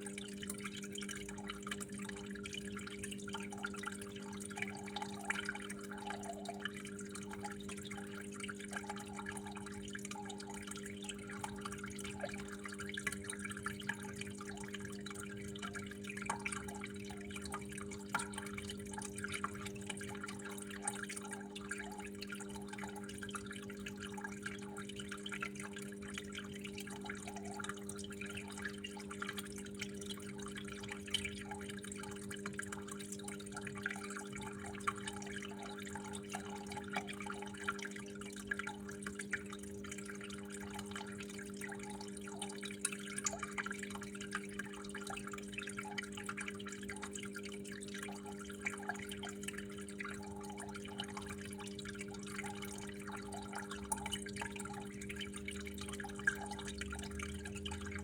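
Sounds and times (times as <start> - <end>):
water trickling and dripping: 0.0 - 58.0.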